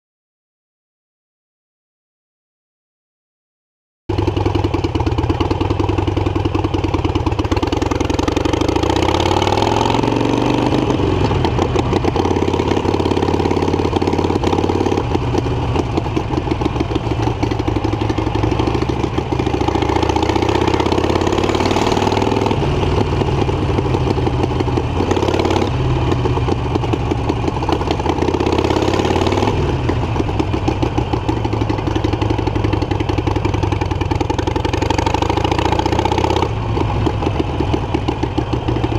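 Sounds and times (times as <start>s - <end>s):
motorcycle engine accelerating: 4.1s - 38.9s.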